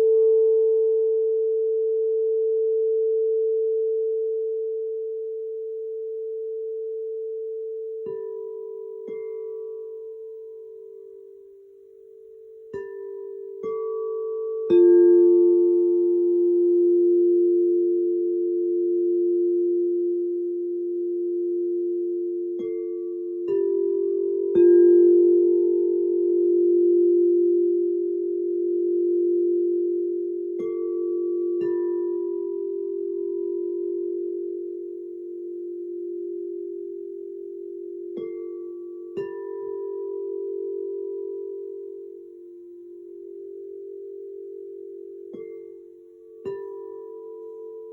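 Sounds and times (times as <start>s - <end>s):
crystal singing bowls ringing: 0.0s - 47.9s.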